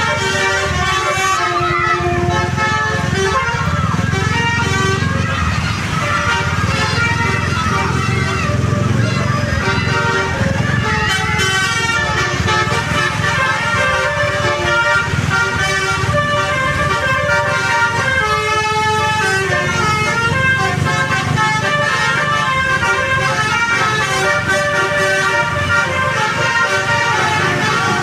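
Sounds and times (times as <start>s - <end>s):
bus engines rumbling: 0.0s - 28.0s
musical bus air horns: 0.0s - 28.0s.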